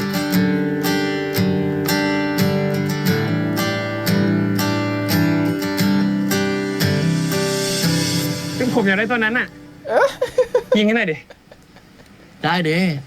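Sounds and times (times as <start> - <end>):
strummed acoustic guitar music: 0.0 - 10.8.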